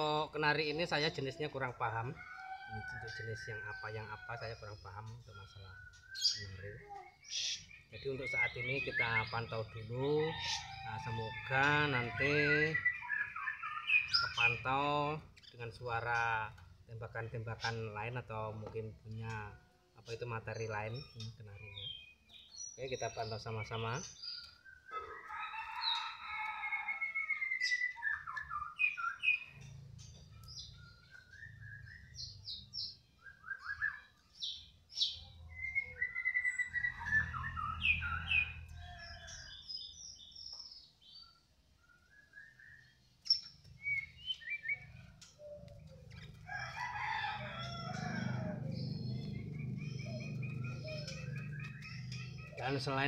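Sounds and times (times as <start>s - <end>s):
canary chirping and trilling: 0.0s - 53.0s.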